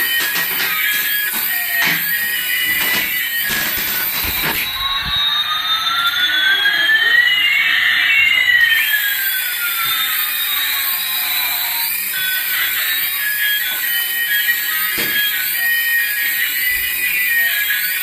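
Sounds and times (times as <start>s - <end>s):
toy jet engine whine: 0.0s - 18.0s.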